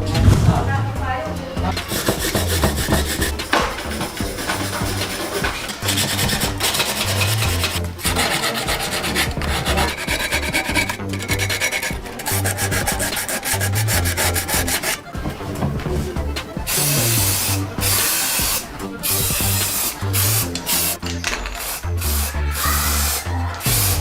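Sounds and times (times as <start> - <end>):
background music with bass: 0.0 - 24.0
sanding rusty metal: 1.6 - 24.0.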